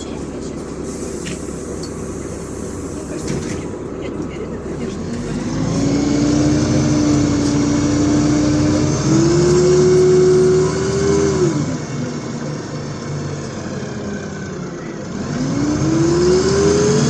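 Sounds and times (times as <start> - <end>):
bus drivetrain whine: 0.0 - 17.0.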